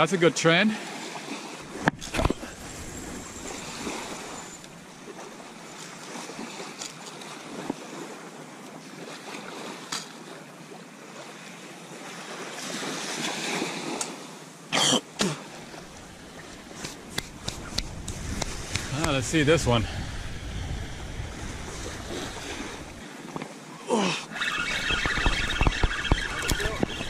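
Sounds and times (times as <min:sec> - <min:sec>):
ocean surf: 0:00.0 - 0:27.0
wind: 0:00.0 - 0:27.0.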